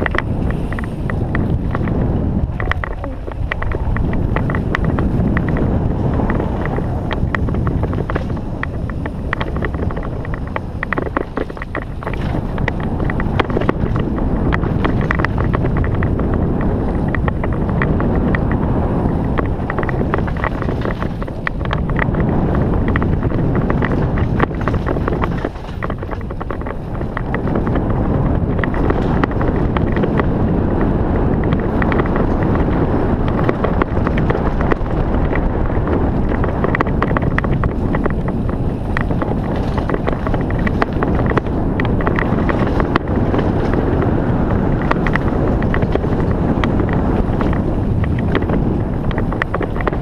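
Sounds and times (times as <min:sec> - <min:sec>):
bike clicks and rattles: 0:00.0 - 0:50.0
bike tyres rolling on dirt: 0:00.0 - 0:50.0
wind on microphone: 0:00.0 - 0:50.0.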